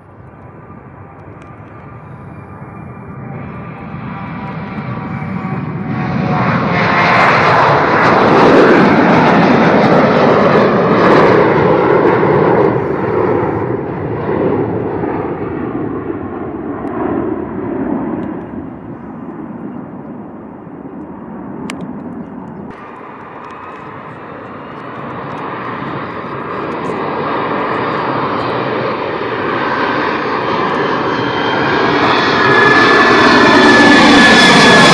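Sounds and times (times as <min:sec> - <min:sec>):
jet airliner passing: 0:00.0 - 0:34.9.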